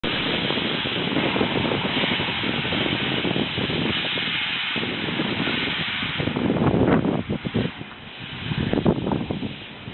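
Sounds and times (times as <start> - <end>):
steam hissing from locomotive: 0.0 - 9.9.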